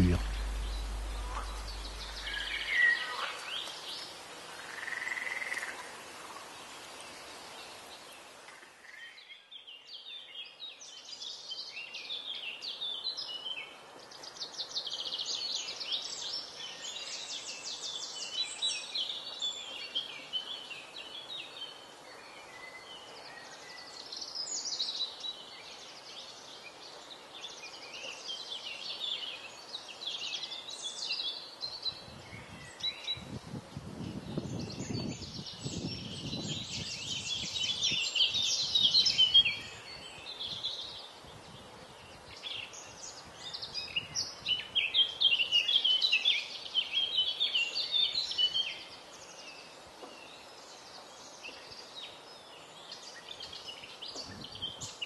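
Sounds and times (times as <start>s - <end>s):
faint steady hiss: 0.0s - 55.0s
wild birdsong: 0.0s - 55.0s.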